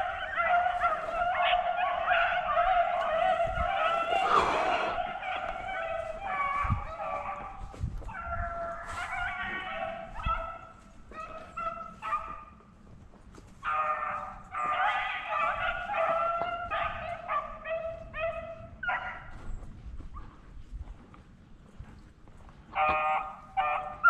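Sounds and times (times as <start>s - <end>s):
beagles baying: 0.0s - 12.6s, 13.4s - 19.6s, 22.7s - 24.0s.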